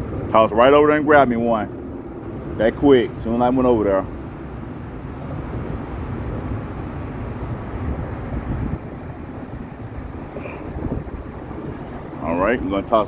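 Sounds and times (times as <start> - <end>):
road traffic over bridge: 0.0 - 13.0.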